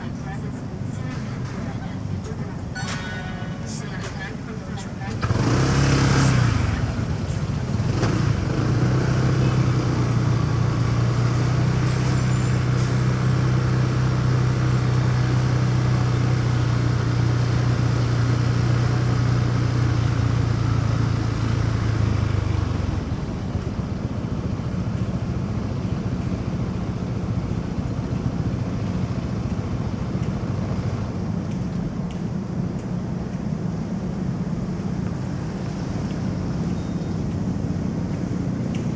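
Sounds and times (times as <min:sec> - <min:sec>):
motorcycle engine: 0:00.0 - 0:38.9
road and wind noise: 0:00.0 - 0:38.9.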